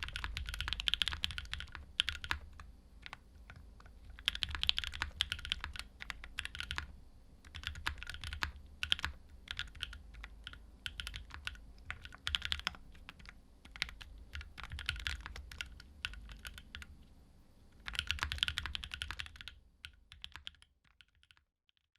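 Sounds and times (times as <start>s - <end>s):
mechanical keyboard typing: 0.0s - 16.9s, 17.8s - 21.9s.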